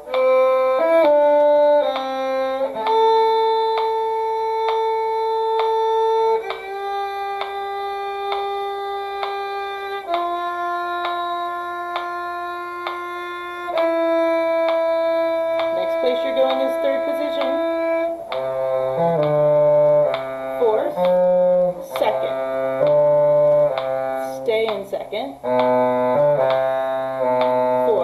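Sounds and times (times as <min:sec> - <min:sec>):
cello playing: 0:00.0 - 0:28.0.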